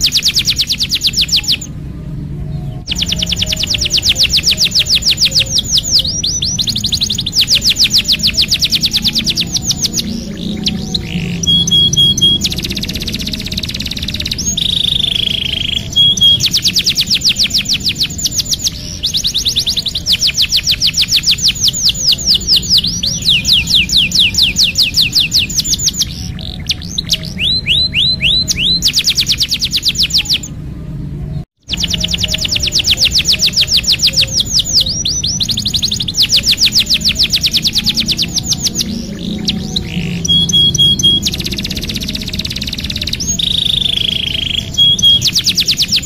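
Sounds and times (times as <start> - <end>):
canary singing rapid trills: 0.0 - 46.0.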